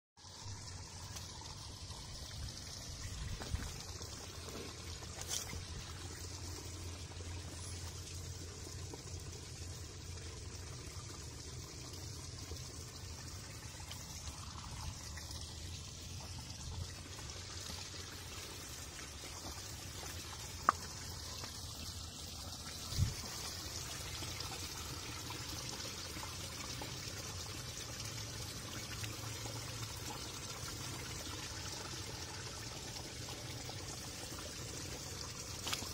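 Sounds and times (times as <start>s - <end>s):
creek trickling over rocks: 0.2s - 35.9s.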